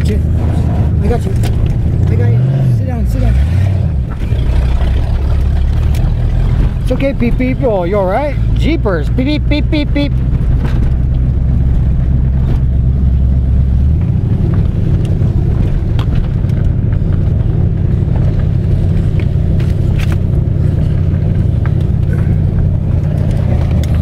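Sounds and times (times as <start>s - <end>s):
car engine revving while driving: 0.0s - 24.0s.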